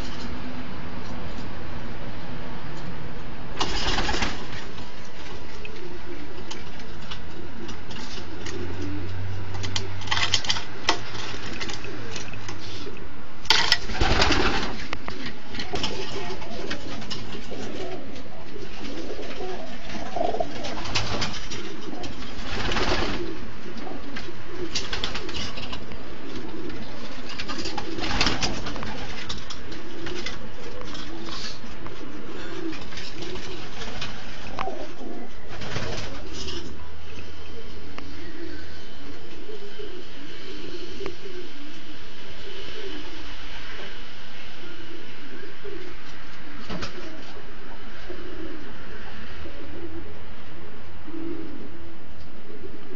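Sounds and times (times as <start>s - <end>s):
pigeons cooing: 3.6s - 13.2s, 13.8s - 52.9s.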